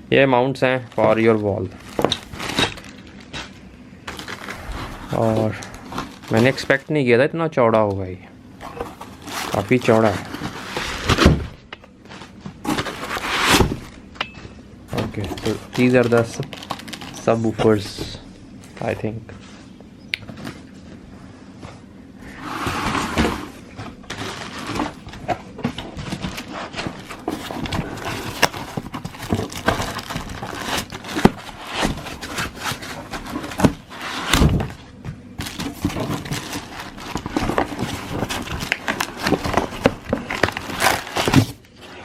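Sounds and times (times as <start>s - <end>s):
packaging rustling and scraping: 0.8s - 6.9s, 8.6s - 14.0s, 14.9s - 18.0s, 21.5s - 34.8s, 35.4s - 42.0s.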